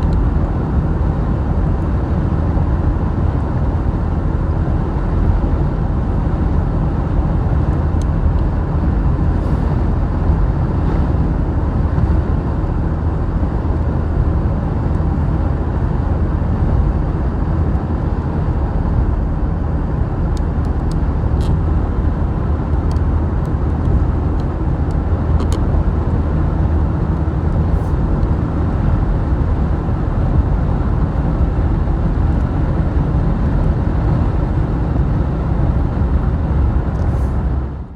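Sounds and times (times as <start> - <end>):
vehicle road noise: 0.0 - 37.9.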